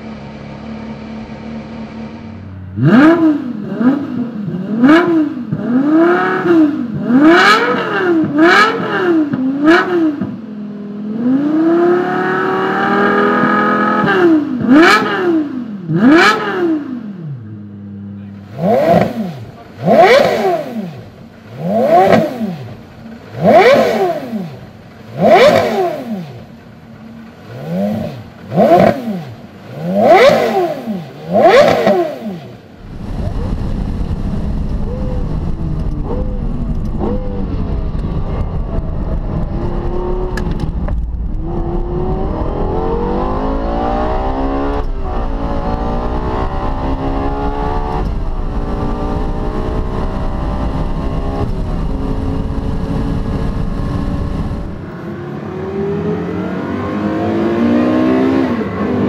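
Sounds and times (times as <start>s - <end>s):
second sports car revving: 0.0s - 59.0s
sports car engine revving: 0.0s - 59.0s.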